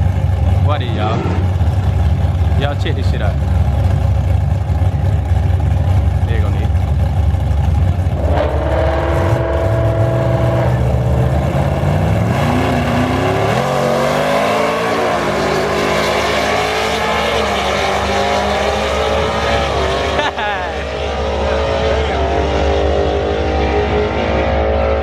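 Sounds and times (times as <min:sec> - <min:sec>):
racing car engine at high revs: 0:00.0 - 0:25.0.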